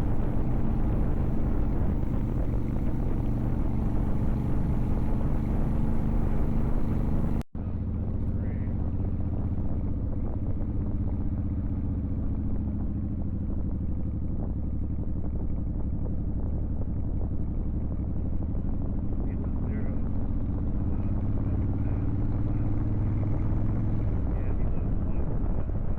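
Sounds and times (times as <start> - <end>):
motorcycle engine running: 0.0 - 25.9
road and wind noise: 0.0 - 25.9.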